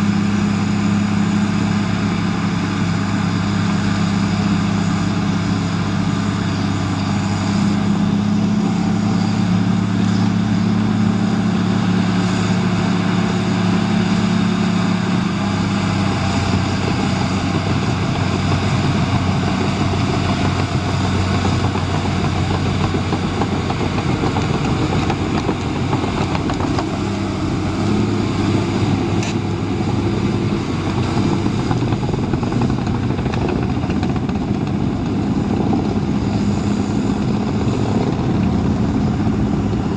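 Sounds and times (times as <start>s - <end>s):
dozer diesel engine running: 0.0s - 39.9s
dozer pushing soil: 0.0s - 39.9s.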